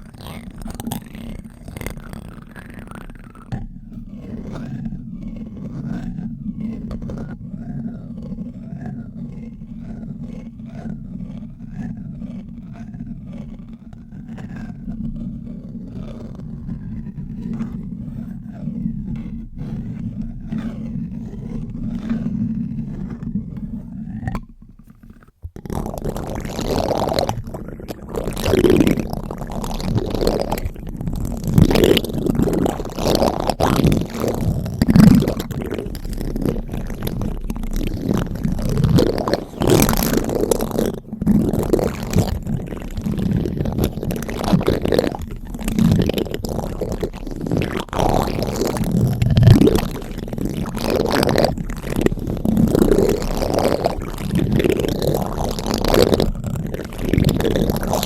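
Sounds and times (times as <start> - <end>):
spoon scraping on microphone: 0.0 - 7.4, 13.4 - 58.0.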